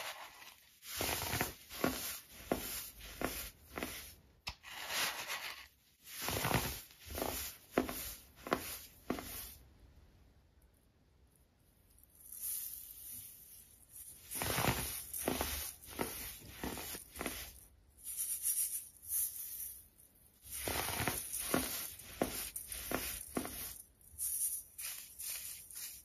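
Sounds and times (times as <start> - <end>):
gritty crunching against metal sieve: 0.0 - 9.5, 13.9 - 19.8, 20.4 - 26.0.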